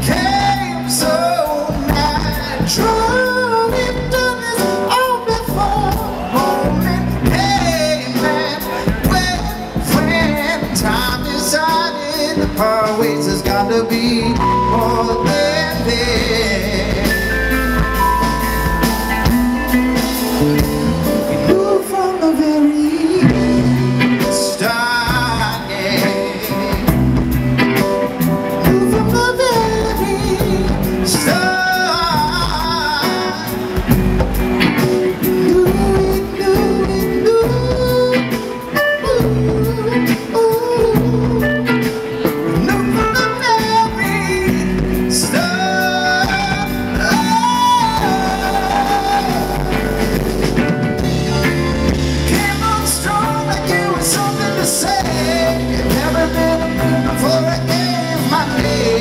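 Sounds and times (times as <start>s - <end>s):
live band playing: 0.0s - 59.0s
man singing: 0.0s - 59.0s.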